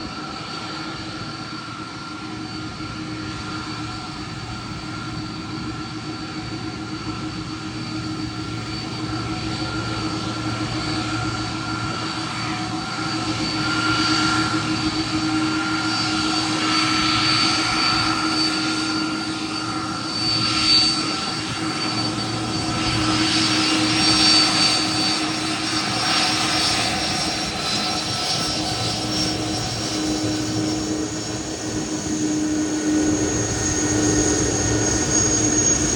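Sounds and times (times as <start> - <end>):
jet engines whining: 0.0 - 35.9.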